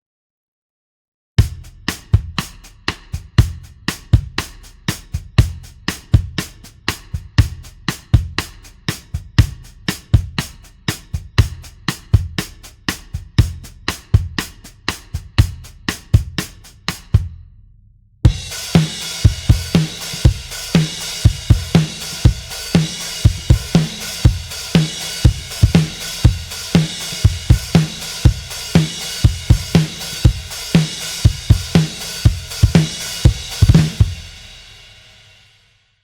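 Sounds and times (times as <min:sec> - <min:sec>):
drum kit groove: 0:01.4 - 0:17.5, 0:18.2 - 0:35.6.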